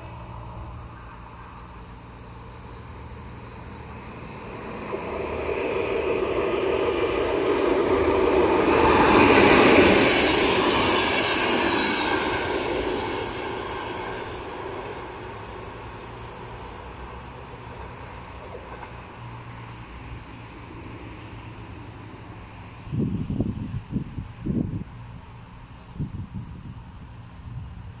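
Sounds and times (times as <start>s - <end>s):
train wheel and rail noise: 0.0s - 28.0s.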